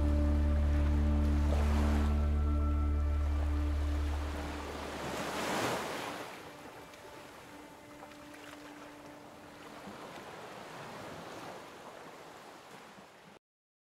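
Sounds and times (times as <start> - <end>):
sea waves washing: 0.0 - 13.2.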